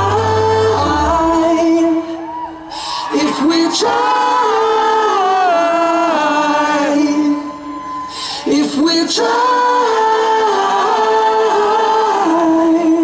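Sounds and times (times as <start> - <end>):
man singing pop ballad: 0.0 - 13.0.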